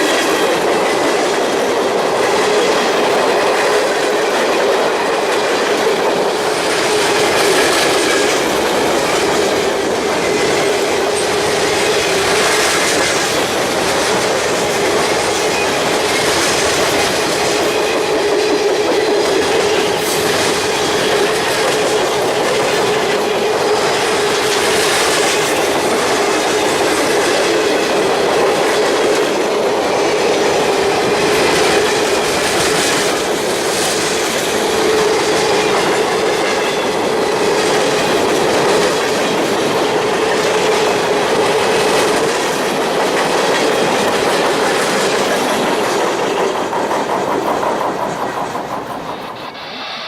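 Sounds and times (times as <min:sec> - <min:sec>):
train wheels clattering over rails: 0:00.0 - 0:50.0.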